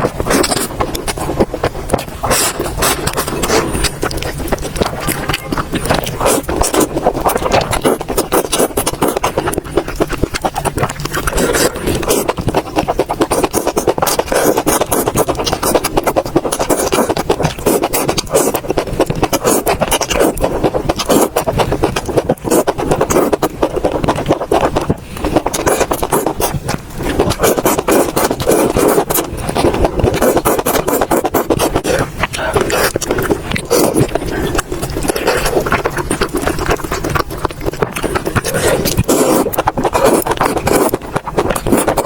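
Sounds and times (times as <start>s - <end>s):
chewing and mouth sounds: 0.0s - 42.0s
rapid clicks and crackles: 0.0s - 42.0s.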